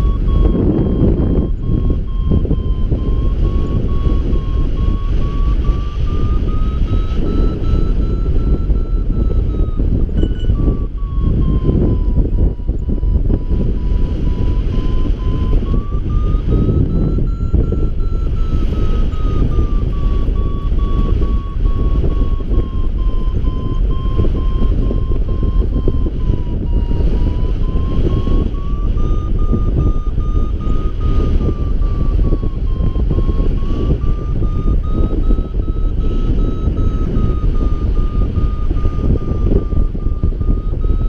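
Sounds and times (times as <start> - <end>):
variometer beeping: 0.0 - 41.0
wind rumble on microphone: 0.0 - 41.0.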